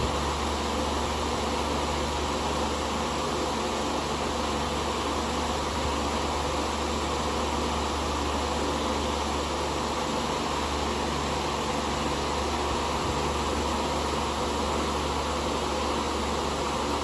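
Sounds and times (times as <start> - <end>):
table fan running: 0.0 - 17.0.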